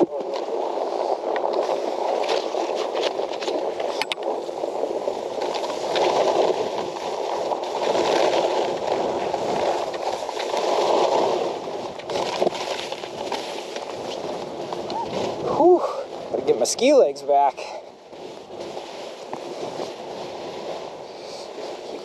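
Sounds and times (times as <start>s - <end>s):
skis scraping over snow: 0.0s - 22.0s.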